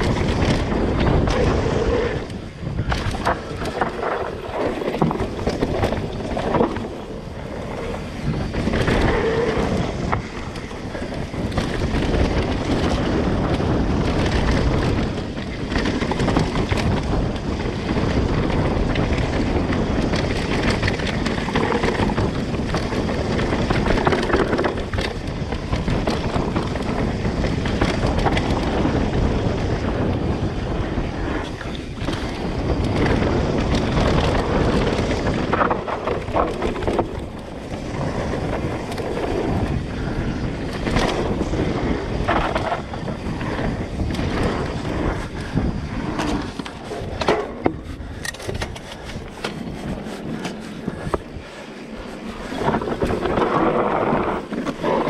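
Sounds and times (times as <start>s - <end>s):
bike rattling over bumps: 0.0s - 55.0s
bike tyres rolling on dirt: 0.0s - 55.0s
wind on microphone: 0.0s - 55.0s.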